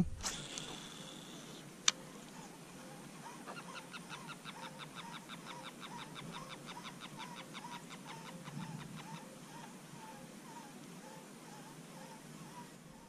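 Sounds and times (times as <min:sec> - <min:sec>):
wavering bird call: 0:02.4 - 0:13.0.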